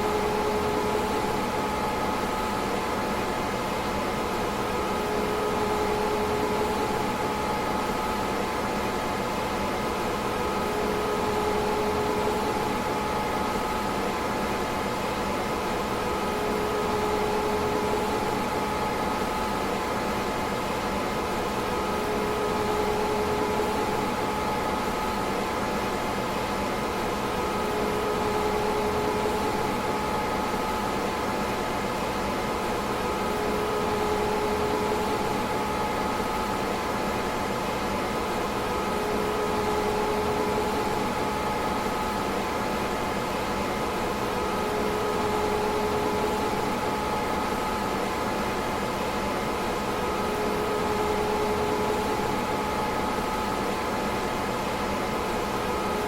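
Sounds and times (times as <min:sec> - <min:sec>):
computer cooling fans humming: 0:00.0 - 0:56.0.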